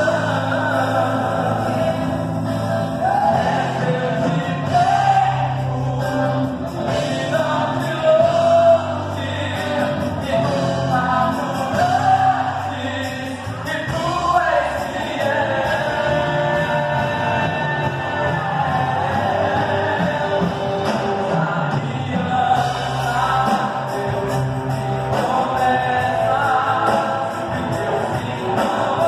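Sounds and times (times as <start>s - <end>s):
church band playing: 0.0s - 29.0s
person singing: 0.0s - 29.0s.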